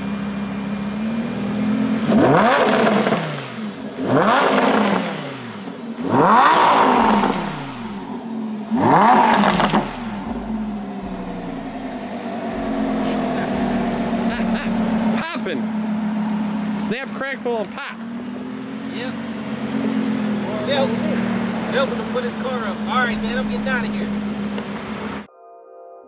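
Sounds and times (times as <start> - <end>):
car engine idling and revving: 0.0 - 25.3.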